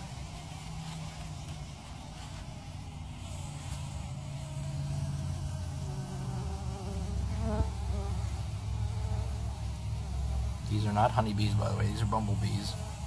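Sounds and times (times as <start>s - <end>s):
bumblebees buzzing: 0.0s - 13.0s.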